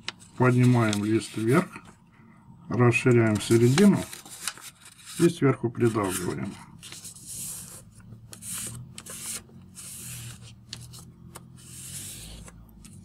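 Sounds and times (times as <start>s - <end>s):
paper rustling as it is creased: 0.0s - 1.8s, 2.9s - 13.0s.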